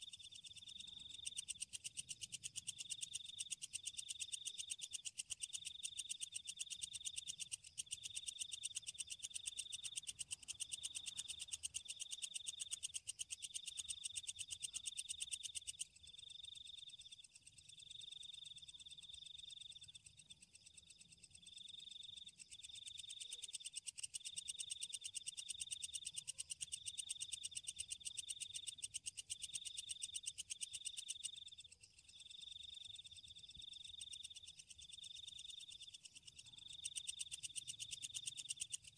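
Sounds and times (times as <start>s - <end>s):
insects buzzing and chirping: 0.0s - 38.9s.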